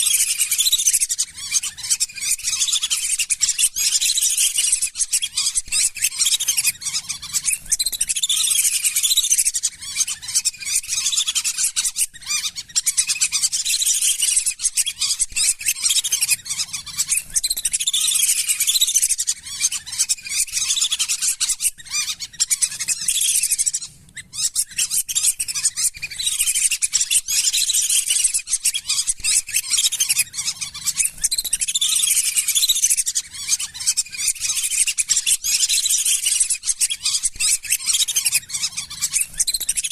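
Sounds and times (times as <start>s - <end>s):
ducks whistling: 0.0s - 39.9s.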